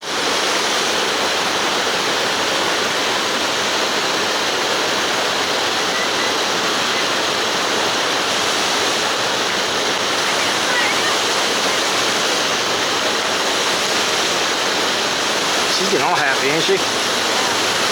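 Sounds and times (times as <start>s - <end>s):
flowing river water: 0.0s - 17.9s.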